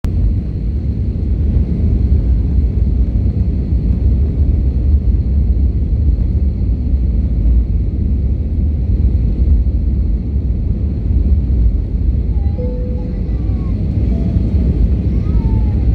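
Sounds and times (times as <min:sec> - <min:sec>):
jet engines rumbling: 0:00.1 - 0:15.9
wind buffeting microphone: 0:00.1 - 0:15.9.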